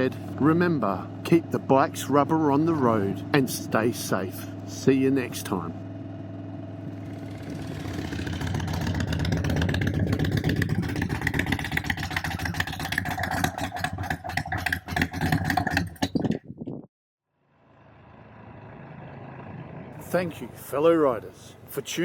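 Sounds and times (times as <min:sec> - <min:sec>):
motorcycle engine accelerating: 0:00.0 - 0:16.9, 0:17.5 - 0:20.4.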